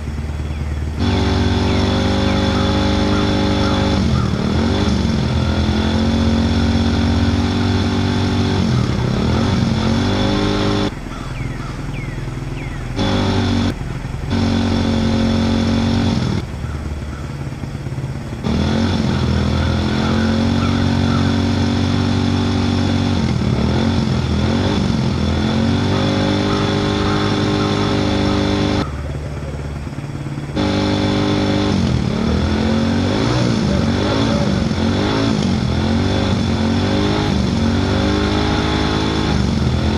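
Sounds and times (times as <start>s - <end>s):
engine running and revving: 0.0s - 39.9s.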